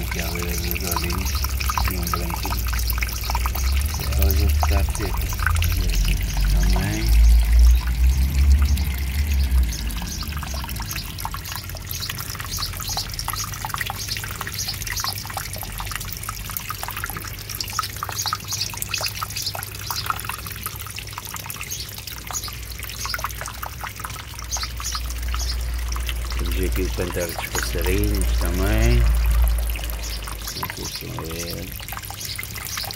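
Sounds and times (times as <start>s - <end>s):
fountain water splashing: 0.0s - 32.9s
low steady pump hum: 0.0s - 32.9s.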